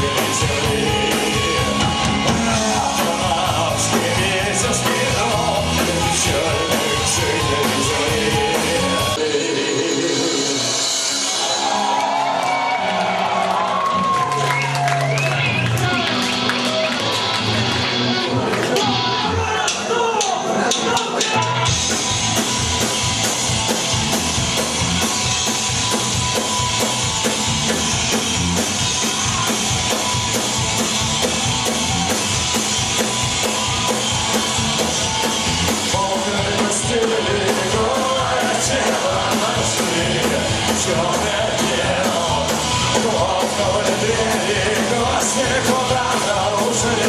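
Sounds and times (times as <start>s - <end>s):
punk rock band playing: 0.0s - 47.0s.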